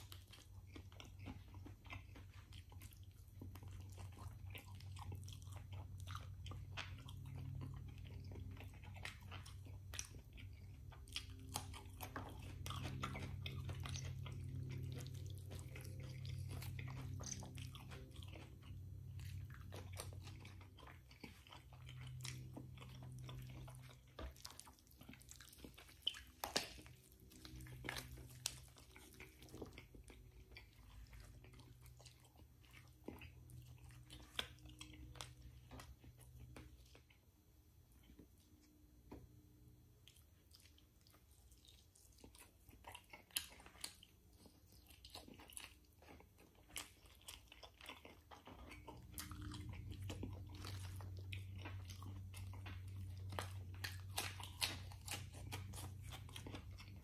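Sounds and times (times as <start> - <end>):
steady low hum: 0.0 - 44.5, 45.1 - 57.0
chewing with wet smacks: 0.0 - 57.0.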